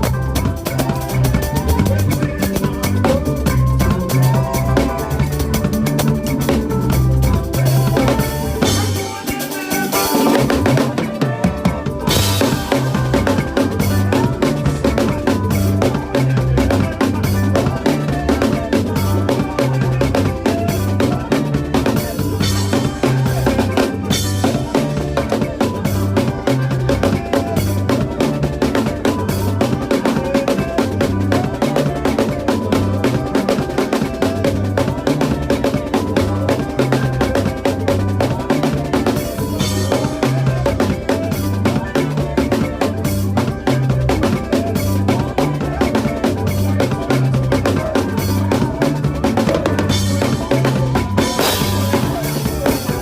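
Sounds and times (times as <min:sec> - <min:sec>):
band backing track: 0:00.0 - 0:53.0
drum kit playing fast groove: 0:00.0 - 0:53.0
stepping bass line: 0:00.0 - 0:53.0.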